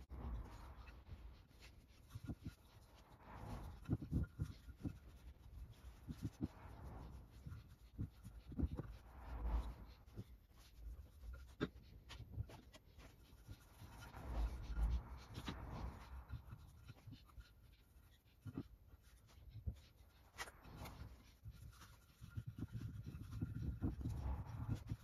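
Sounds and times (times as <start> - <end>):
paintbrush bristles swishing on wood: 0.0 - 25.0.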